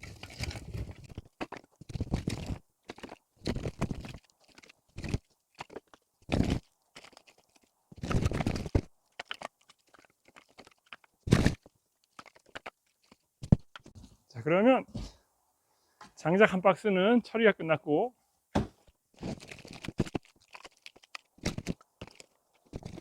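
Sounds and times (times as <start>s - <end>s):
firewood logs clattering: 0.0s - 14.1s, 18.6s - 23.0s.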